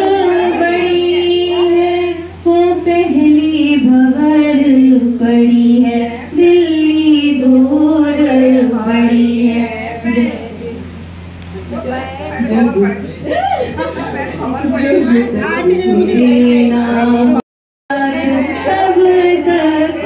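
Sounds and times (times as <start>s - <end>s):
women singing: 0.0s - 11.1s, 11.8s - 20.0s.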